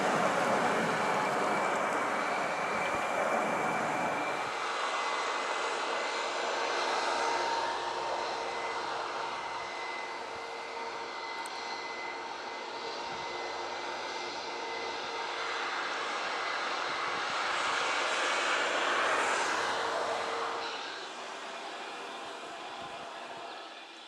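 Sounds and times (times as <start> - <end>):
jet engines rushing and whining: 0.0 - 24.0.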